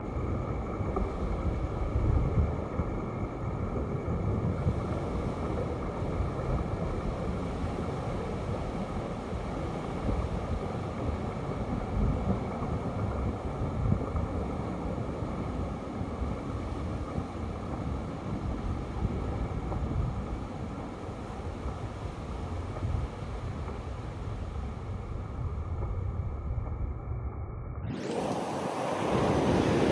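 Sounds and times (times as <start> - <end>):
wind rumbling on microphone: 0.0 - 29.9
sea surf: 0.1 - 25.2, 27.9 - 29.9.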